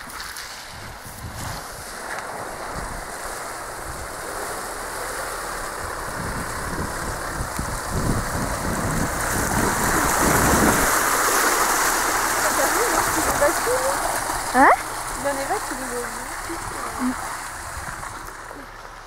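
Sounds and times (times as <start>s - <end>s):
truck engine running: 0.0s - 19.0s
tyres churning through water and mud: 0.0s - 19.0s.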